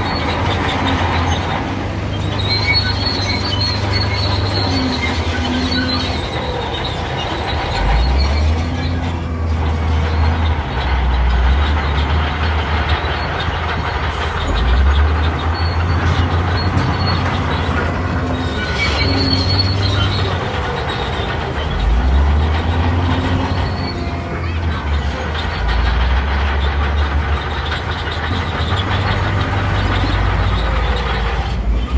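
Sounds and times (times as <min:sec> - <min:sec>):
bulldozer diesel engine: 0:00.0 - 0:31.9
steel tracks clanking and squealing: 0:00.0 - 0:31.9.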